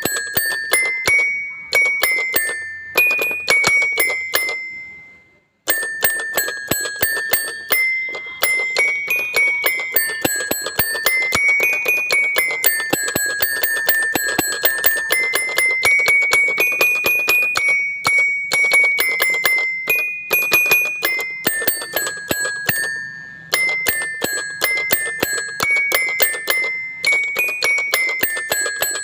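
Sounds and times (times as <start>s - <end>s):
bell-like background music: 0.0s - 29.0s.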